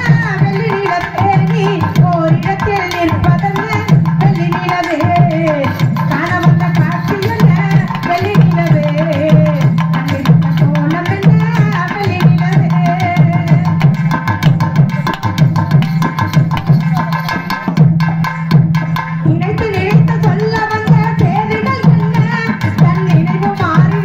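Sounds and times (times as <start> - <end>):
fast steady drumming: 0.0 - 24.0.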